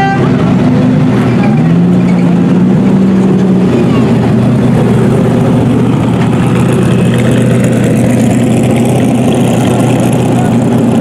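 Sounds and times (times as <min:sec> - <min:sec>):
race car engine idling: 0:00.1 - 0:11.0.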